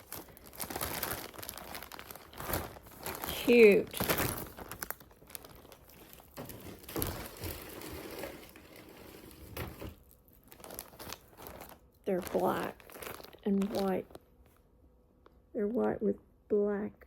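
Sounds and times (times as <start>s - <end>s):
packaging crinkling and rustling: 0.0s - 14.6s.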